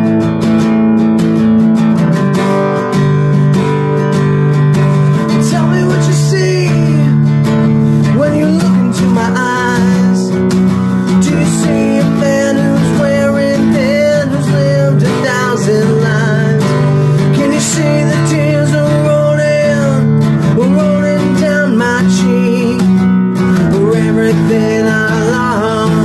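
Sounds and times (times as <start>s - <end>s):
acoustic guitar strumming chords: 0.0s - 26.0s
man singing: 4.7s - 26.0s.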